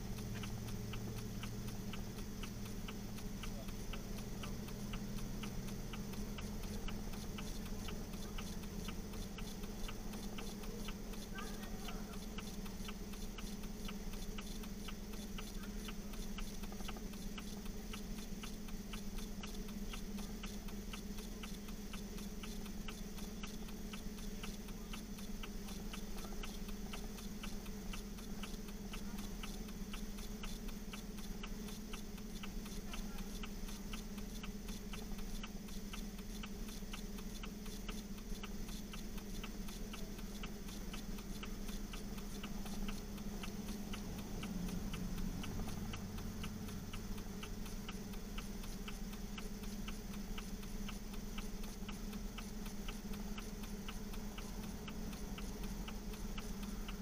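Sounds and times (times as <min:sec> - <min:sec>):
fast even ticking: 0:00.0 - 0:57.0.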